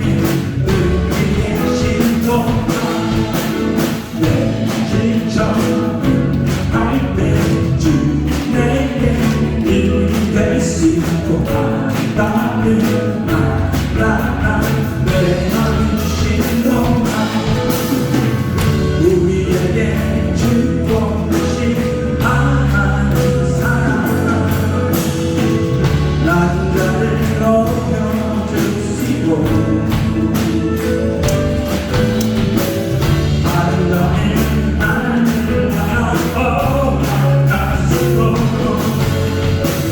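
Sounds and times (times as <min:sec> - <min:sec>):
band playing worship song: 0:00.0 - 0:39.9.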